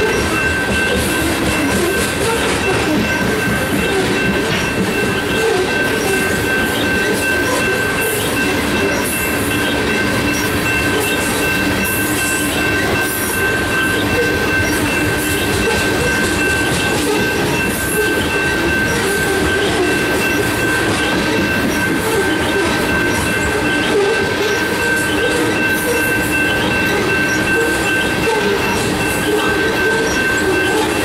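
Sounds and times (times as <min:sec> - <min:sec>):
steady high-pitched tones: 0:00.0 - 0:31.0
train wheels clattering on rails: 0:00.0 - 0:31.0.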